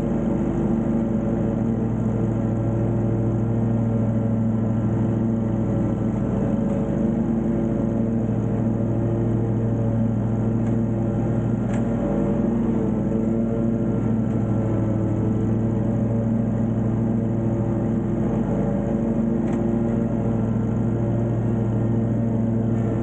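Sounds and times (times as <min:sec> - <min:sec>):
mower engine running: 0:00.0 - 0:23.0.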